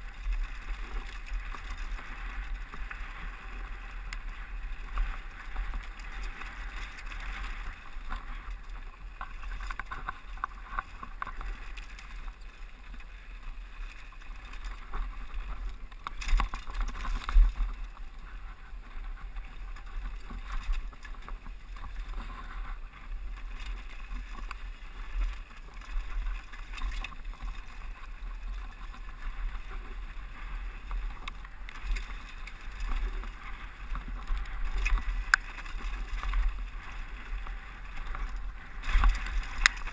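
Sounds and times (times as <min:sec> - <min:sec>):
bike rattling and clicking: 0:00.0 - 0:39.9.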